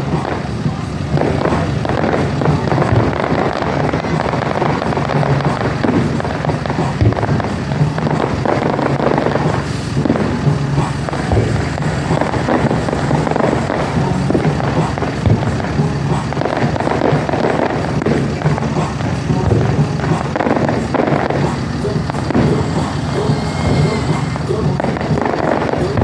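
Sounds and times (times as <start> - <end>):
fireworks crackling and banging: 0.0 - 26.0
music playing: 0.0 - 26.0.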